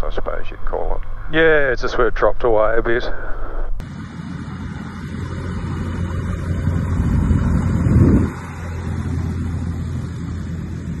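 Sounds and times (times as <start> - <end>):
light aircraft engine rumble: 0.0 - 11.0.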